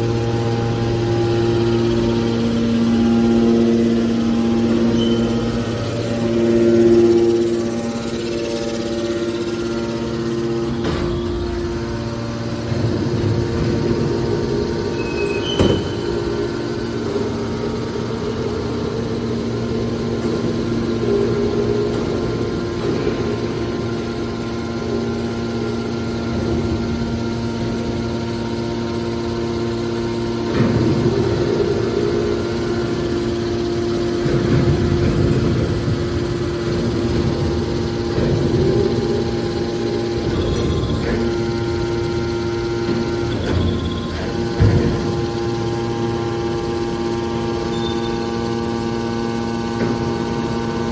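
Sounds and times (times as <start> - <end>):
hydraulic baler hum: 0.0 - 50.9.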